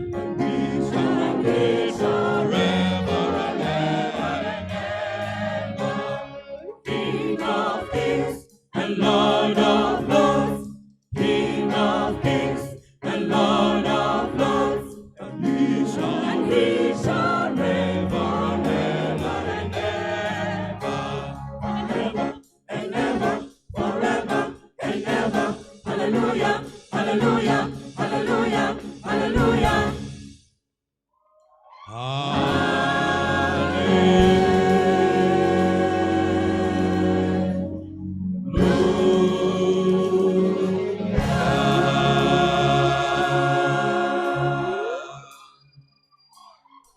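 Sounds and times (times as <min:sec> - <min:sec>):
choir singing a hymn: 0:00.2 - 0:30.2, 0:32.3 - 0:37.9, 0:38.5 - 0:45.4.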